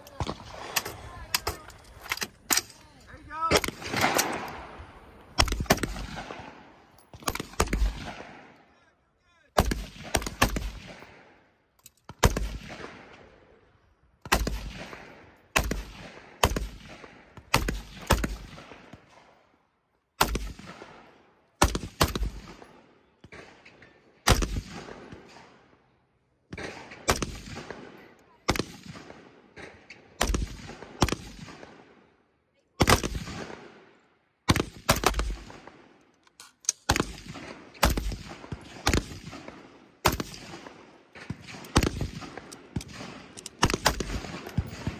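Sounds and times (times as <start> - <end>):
gunshots with long echo: 0.1 - 1.6, 3.5 - 8.6, 9.6 - 19.6, 20.2 - 25.8, 26.5 - 32.2, 32.8 - 36.0, 36.8 - 44.9.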